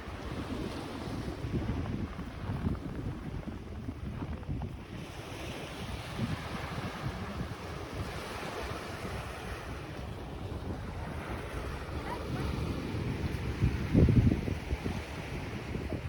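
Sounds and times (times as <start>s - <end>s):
sea surf washing on shore: 0.0s - 16.0s
wind buffeting microphone: 0.0s - 16.0s.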